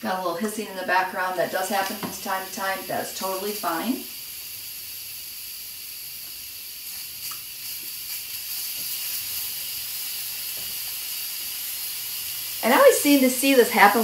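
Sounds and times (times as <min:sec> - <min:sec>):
pressure cooker steam hissing: 0:00.0 - 0:14.0.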